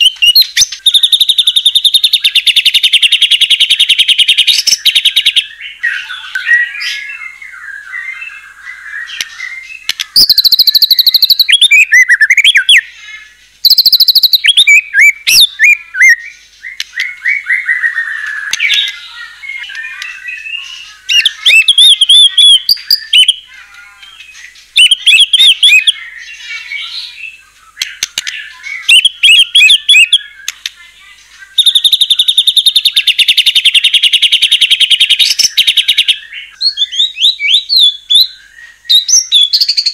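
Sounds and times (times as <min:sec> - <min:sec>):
bird singing with whistles and trills: 0:00.0 - 0:39.9.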